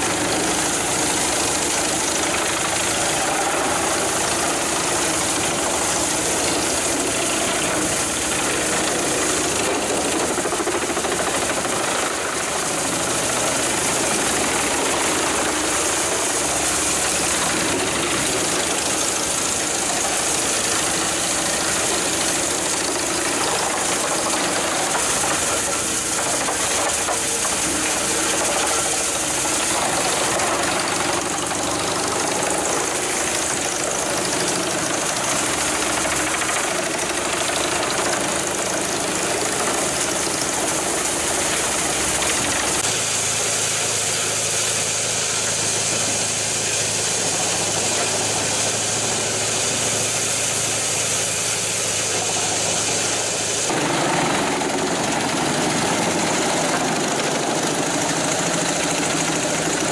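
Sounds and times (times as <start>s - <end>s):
heavy machinery engines running: 0.0s - 59.9s.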